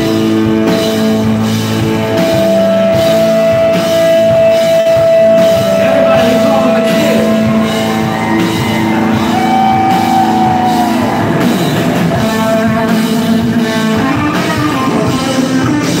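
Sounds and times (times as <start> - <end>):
drum kit: 0.0 - 16.0
electric guitar: 0.0 - 16.0.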